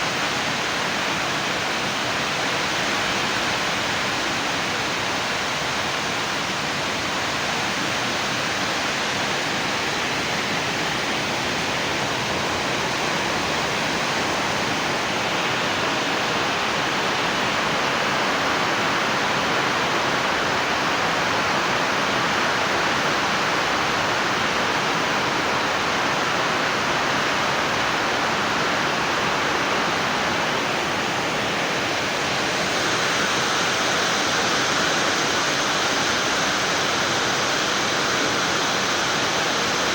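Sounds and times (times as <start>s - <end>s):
steady rushing hiss: 0.0s - 39.9s.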